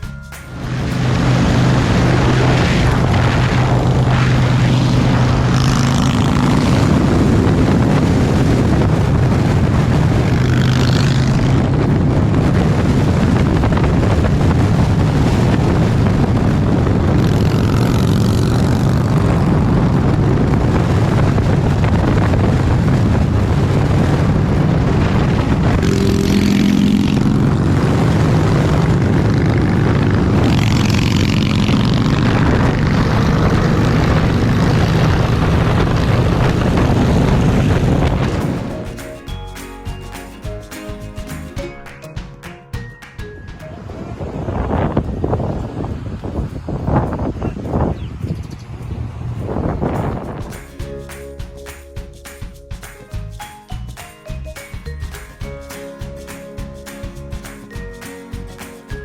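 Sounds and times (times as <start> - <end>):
motorcycle engine cruising: 0.0 - 41.6, 43.8 - 59.0
wind rushing on microphone: 0.0 - 41.6, 43.5 - 52.0.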